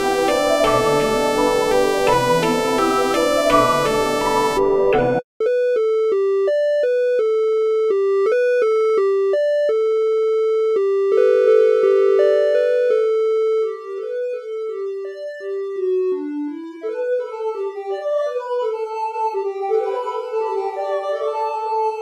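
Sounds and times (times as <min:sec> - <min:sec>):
synth single-note melody: 0:00.0 - 0:17.7.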